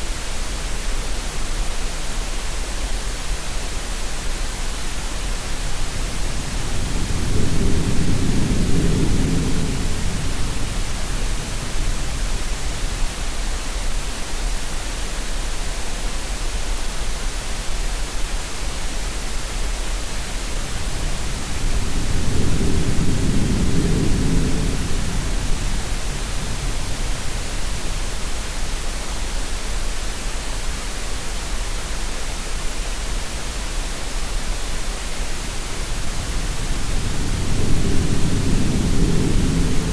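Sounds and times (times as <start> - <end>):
green noise hiss: 0.0 - 39.9.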